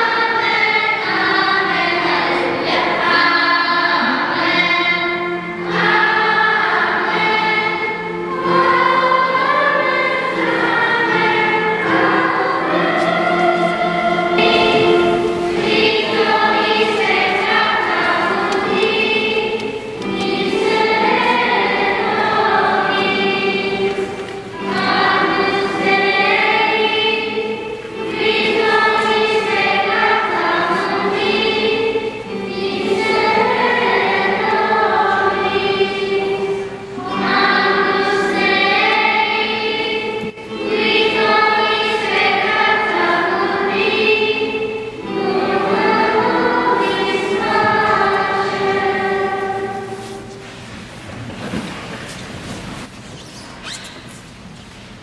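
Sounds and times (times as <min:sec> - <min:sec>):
choir singing a hymn: 0:00.0 - 0:52.9.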